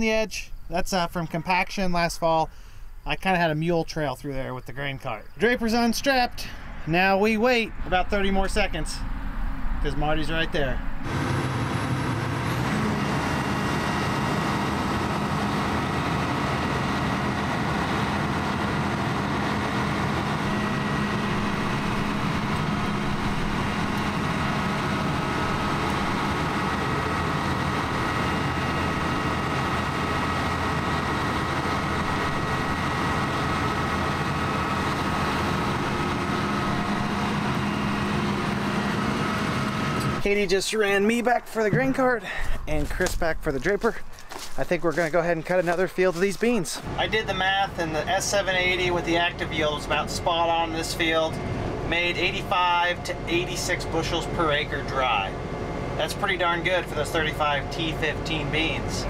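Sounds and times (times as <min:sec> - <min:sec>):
faint steady whine: 0:00.0 - 0:44.4, 0:46.4 - 0:59.0
large engine droning: 0:07.6 - 0:43.2, 0:46.8 - 0:59.0.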